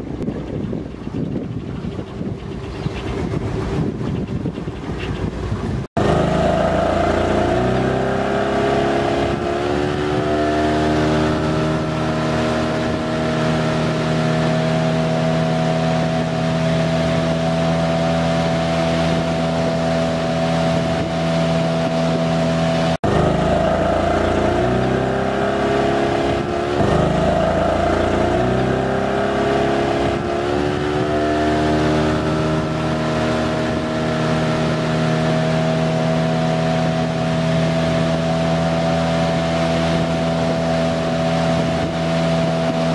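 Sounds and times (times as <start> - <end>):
boat motor running: 0.0 - 42.9.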